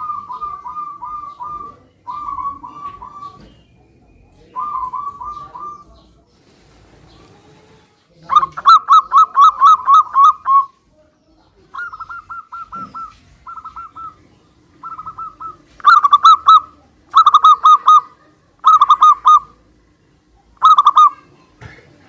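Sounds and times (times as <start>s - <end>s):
doves cooing: 0.0s - 10.8s, 11.6s - 21.3s.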